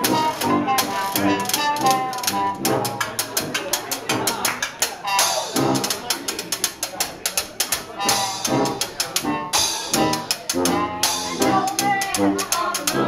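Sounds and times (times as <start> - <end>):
trumpet: 0.0 - 4.3, 5.0 - 6.2, 7.9 - 13.0
tuba: 0.0 - 6.6, 7.7 - 13.0.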